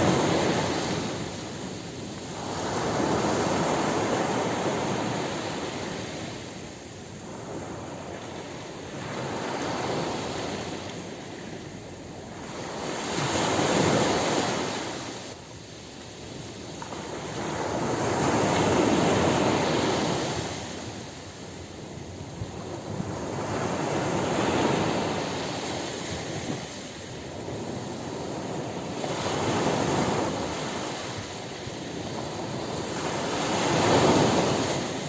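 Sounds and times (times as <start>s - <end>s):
ocean surf breaking: 0.0s - 15.4s, 16.1s - 35.0s.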